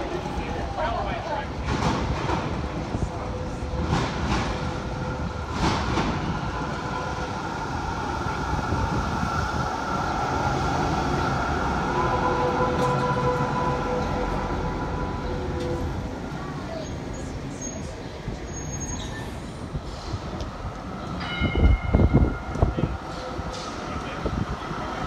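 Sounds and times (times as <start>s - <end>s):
wheels rumbling on rails: 0.0s - 25.0s
tram electric whine: 2.2s - 25.0s.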